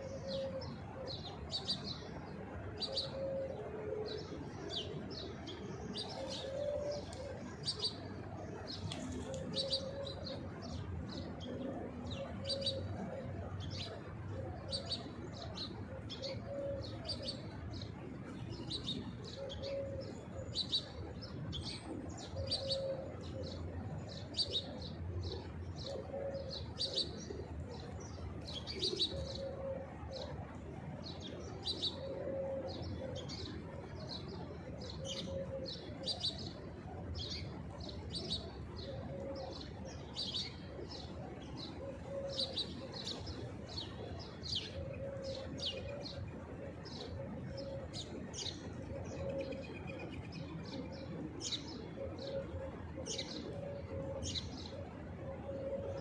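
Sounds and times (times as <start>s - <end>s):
pigeon cooing: 0.0s - 1.7s, 2.8s - 17.4s, 19.2s - 20.9s, 21.8s - 27.9s, 28.5s - 30.4s, 31.6s - 36.6s, 37.2s - 56.0s.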